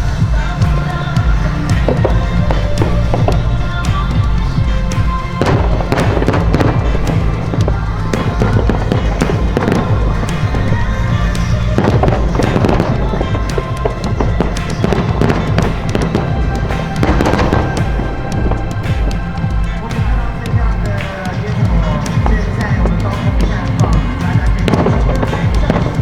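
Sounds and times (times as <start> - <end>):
fireworks bursting and crackling: 0.0 - 26.0
loud music: 0.0 - 26.0.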